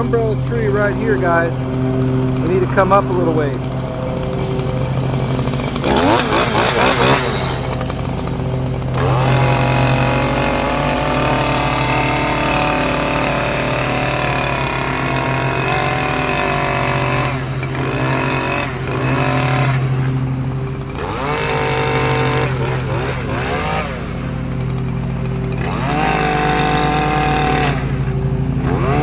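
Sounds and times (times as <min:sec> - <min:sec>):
hedge trimmer engine revving: 0:00.0 - 0:29.0.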